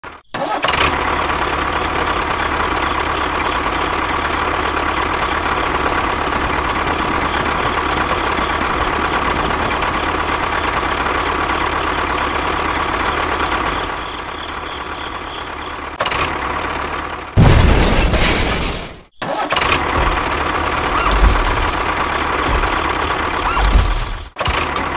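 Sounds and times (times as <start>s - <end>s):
tractor engine running: 0.0s - 17.6s, 19.5s - 24.9s.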